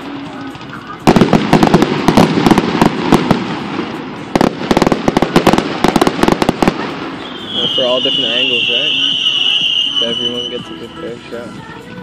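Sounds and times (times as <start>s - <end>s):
fireworks crackling: 0.0s - 11.4s.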